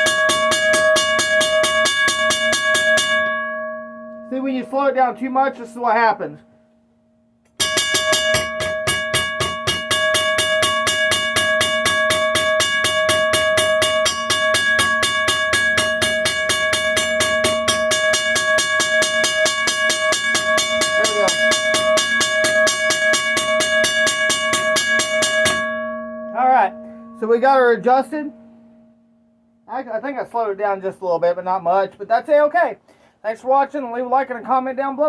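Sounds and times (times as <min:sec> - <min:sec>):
railroad crossing bell ringing: 0:00.0 - 0:06.6, 0:07.5 - 0:29.2.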